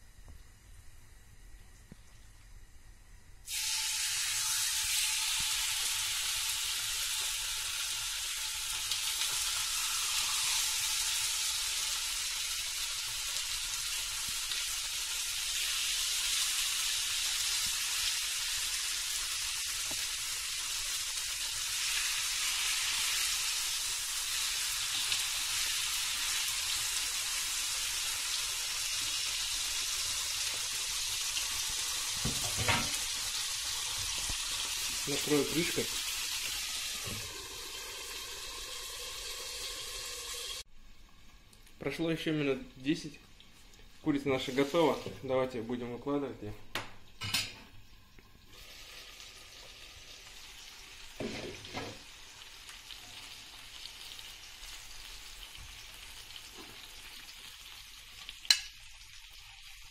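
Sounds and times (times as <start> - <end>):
chicken sizzling in hot oil: 3.4 - 40.7, 43.0 - 45.3, 47.9 - 59.9.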